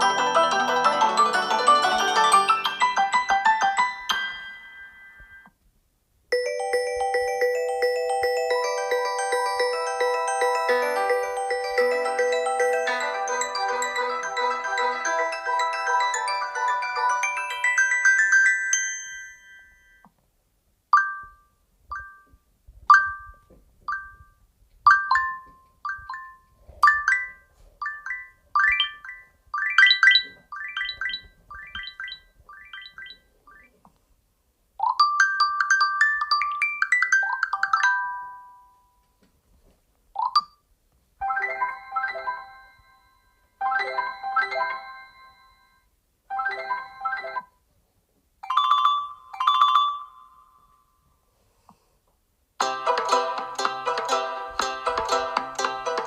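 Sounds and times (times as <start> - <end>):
phone ringtone chime melodies: 0.0 - 5.6, 6.3 - 20.1, 21.0 - 33.7, 34.9 - 39.0, 41.2 - 47.6, 48.4 - 50.9.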